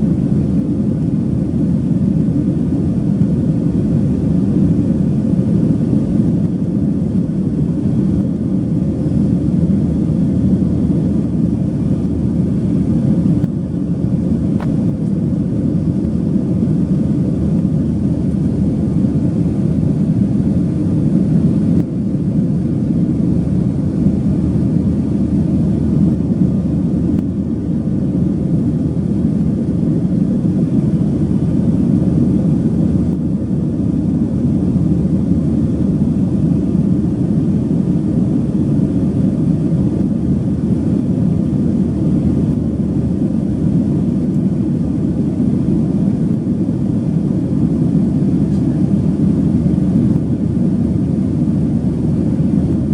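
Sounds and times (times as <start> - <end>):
jet engine and airflow noise: 0.0 - 52.9.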